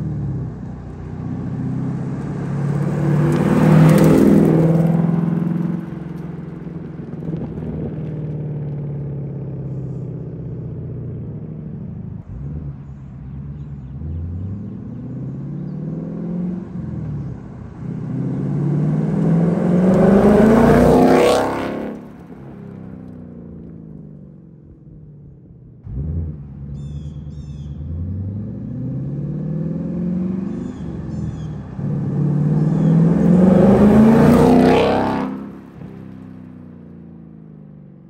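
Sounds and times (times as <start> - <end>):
car engine passing by: 0.0 - 10.0, 12.2 - 23.7, 25.8 - 37.3.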